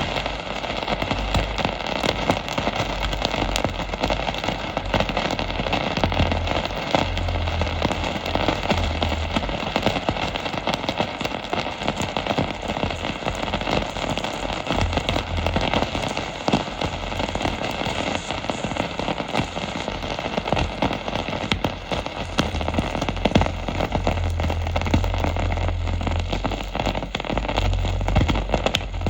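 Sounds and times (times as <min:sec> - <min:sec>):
glue sizzling and popping: 0:00.0 - 0:29.0.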